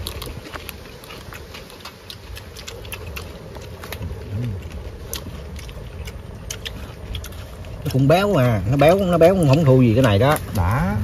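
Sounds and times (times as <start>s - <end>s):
low background rumble: 0.0s - 11.0s
people chewing crispy food: 0.0s - 11.0s.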